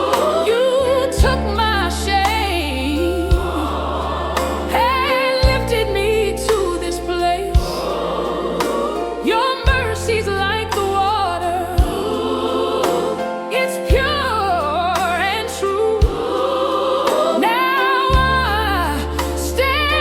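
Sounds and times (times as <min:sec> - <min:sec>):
held bass: 0:00.0 - 0:13.3, 0:13.9 - 0:17.4, 0:18.1 - 0:20.0
wordless singing with vibrato: 0:00.0 - 0:20.0.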